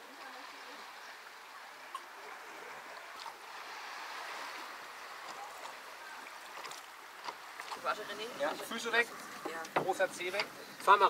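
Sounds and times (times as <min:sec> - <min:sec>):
water washing along hull: 0:00.0 - 0:11.0.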